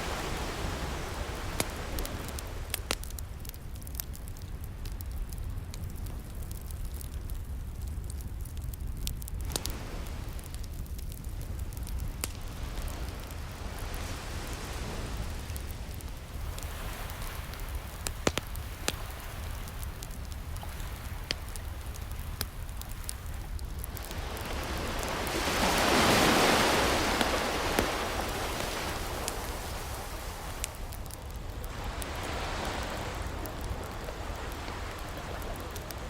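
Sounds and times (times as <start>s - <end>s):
ocean waves breaking: 0.0s - 4.1s, 9.5s - 10.5s, 11.8s - 36.0s
wood fire crackling and popping: 0.0s - 36.0s.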